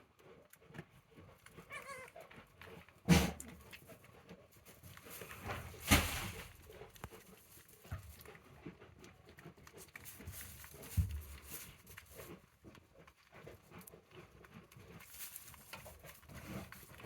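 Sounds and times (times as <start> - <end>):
goats pattering and scuffling: 0.2 - 17.0.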